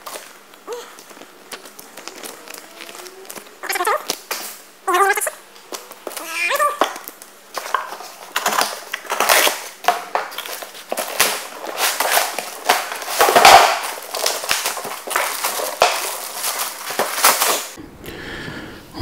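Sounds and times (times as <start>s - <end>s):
foam and cardboard rustling: 0.0s - 17.8s.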